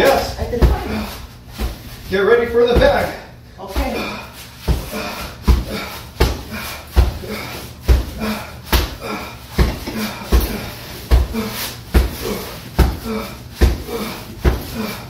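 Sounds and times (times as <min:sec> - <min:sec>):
punches thudding on heavy bag: 0:02.6 - 0:15.0.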